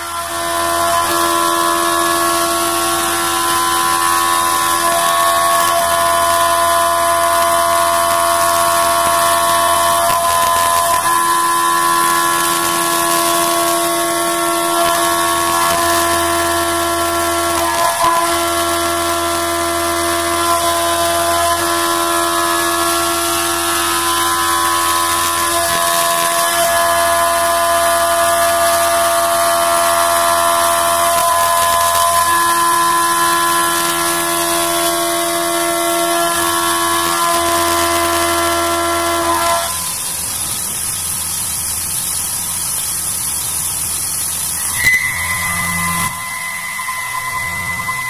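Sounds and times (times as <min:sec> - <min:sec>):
coolant hiss: 0:00.0 - 0:48.0
milling machine cutting whine: 0:00.0 - 0:48.0.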